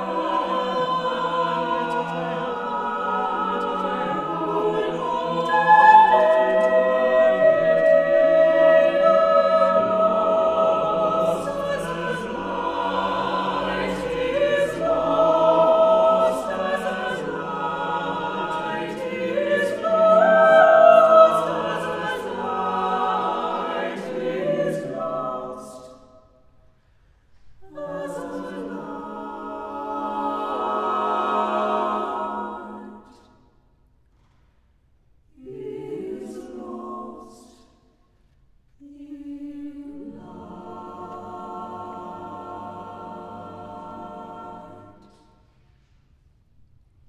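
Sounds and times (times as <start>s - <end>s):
chamber choir singing unaccompanied: 0.0s - 26.7s, 27.4s - 33.7s, 35.3s - 46.0s.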